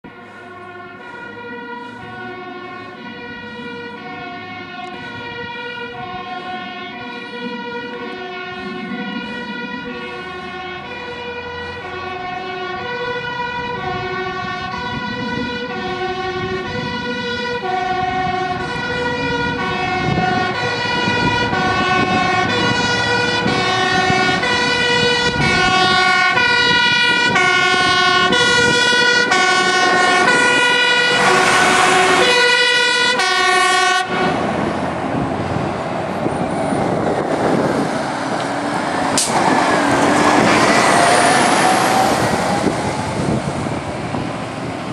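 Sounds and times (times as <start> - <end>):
truck engine and road noise: 0.0 - 44.9
two-tone fire engine siren: 0.0 - 44.9.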